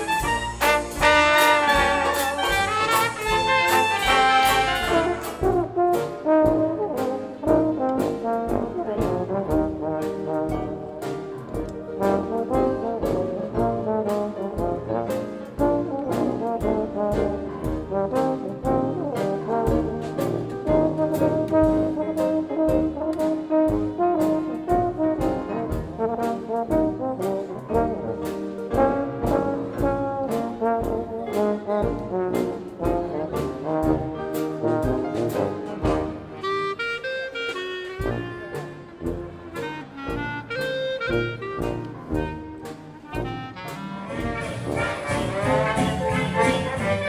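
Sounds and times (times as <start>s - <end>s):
jazz band playing: 0.0s - 47.0s
trombone: 0.0s - 47.0s
trumpet: 0.0s - 47.0s.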